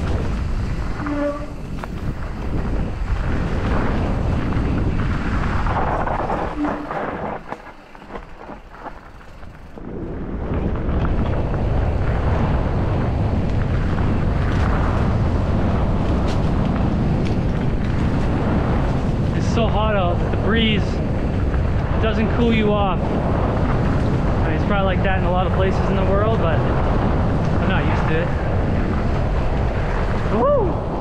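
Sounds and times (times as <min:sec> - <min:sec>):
mountain bike tyre and frame noise: 0:00.0 - 0:31.0
wind buffeting microphone: 0:00.0 - 0:31.0.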